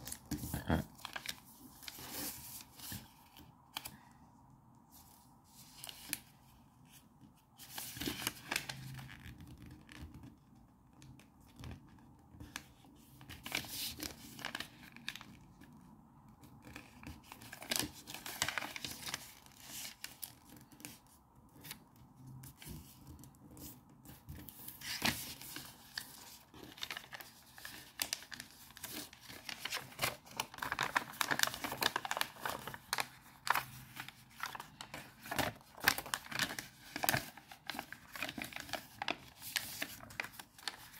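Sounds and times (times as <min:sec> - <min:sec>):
paper being folded and creased: 0:00.0 - 0:03.9, 0:04.9 - 0:40.9.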